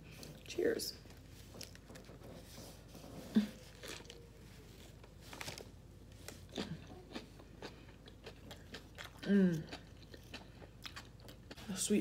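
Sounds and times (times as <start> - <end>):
person chewing a sandwich: 0.0 - 12.0.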